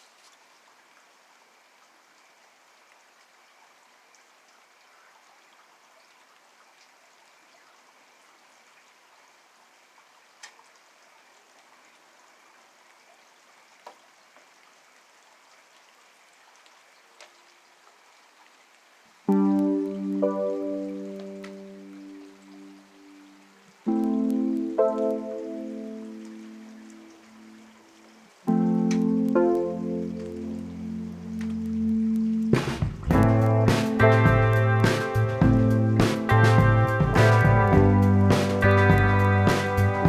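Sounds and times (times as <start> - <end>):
faint rain falling: 0.0 - 40.0.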